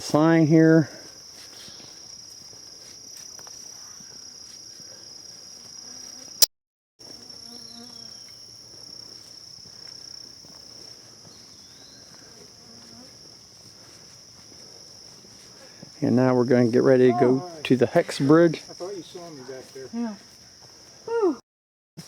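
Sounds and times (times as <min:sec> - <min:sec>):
insects chorus: 0:00.0 - 0:21.4.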